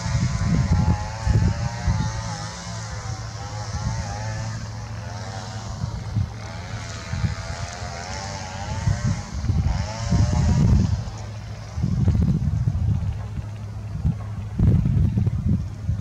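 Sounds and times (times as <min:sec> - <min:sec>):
jet engines whining: 0:00.0 - 0:16.0
wind rumble on microphone: 0:00.0 - 0:16.0.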